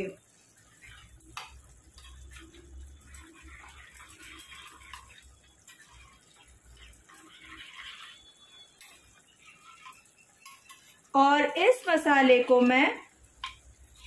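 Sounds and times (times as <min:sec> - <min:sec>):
spoon stirring wet paste: 0:00.4 - 0:14.0.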